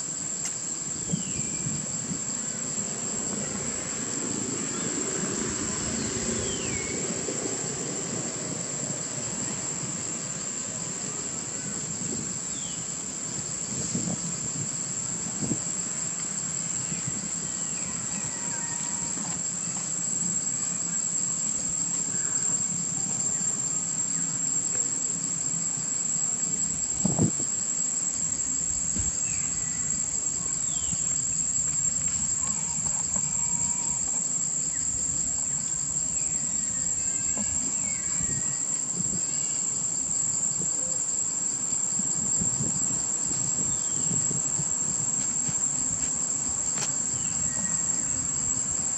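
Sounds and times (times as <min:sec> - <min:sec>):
high-pitched insect drone: 0:00.0 - 0:48.9.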